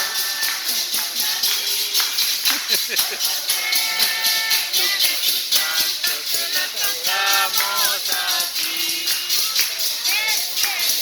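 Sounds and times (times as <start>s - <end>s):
person singing: 0.0s - 11.0s
shaker rhythm: 0.0s - 11.0s.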